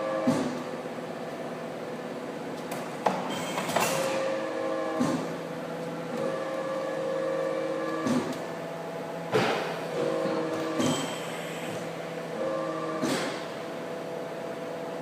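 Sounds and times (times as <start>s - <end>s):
machine motor hum: 0.0s - 15.0s.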